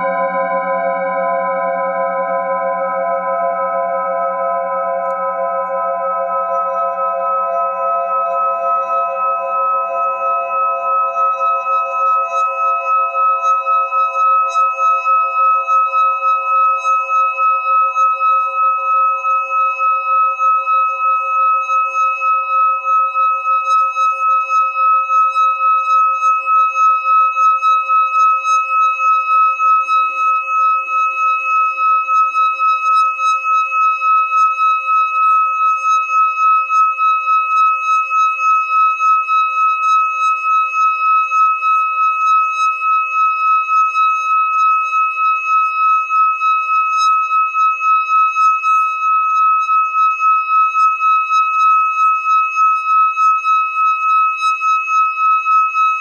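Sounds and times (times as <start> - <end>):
singing bowl ringing: 0.0 - 56.0.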